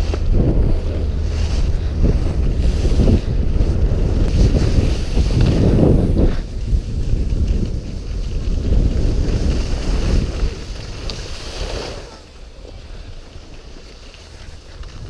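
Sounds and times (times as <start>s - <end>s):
skis scraping over snow: 0.0s - 15.0s
wind rumbling on microphone: 0.0s - 15.0s.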